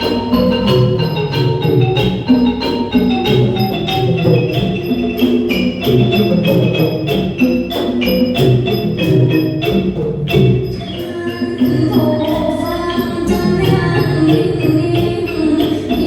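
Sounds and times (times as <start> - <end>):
fast xylophone-like mallet notes: 0.0 - 16.0
steady sharp percussion strikes: 0.0 - 16.0
traditional ensemble music: 0.0 - 16.0.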